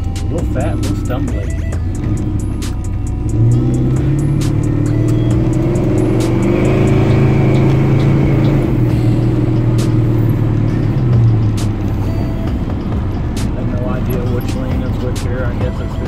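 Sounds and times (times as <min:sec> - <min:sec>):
engine exhaust rumble: 0:00.0 - 0:16.0.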